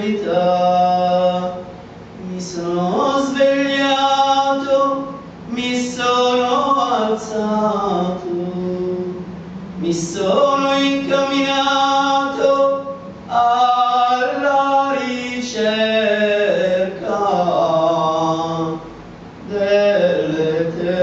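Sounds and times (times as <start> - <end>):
man singing devotional song: 0.0 - 21.0.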